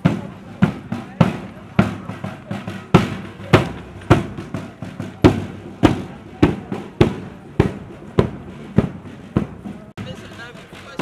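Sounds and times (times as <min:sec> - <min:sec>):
bass drum and cymbals striking: 0:00.0 - 0:11.0
snare drum strokes: 0:00.0 - 0:11.0.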